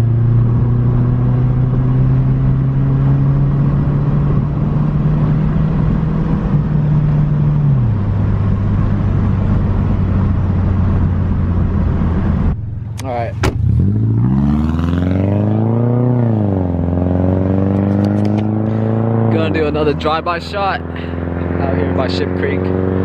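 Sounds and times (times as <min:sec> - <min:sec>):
car engine exhaust drone: 0:00.0 - 0:23.0.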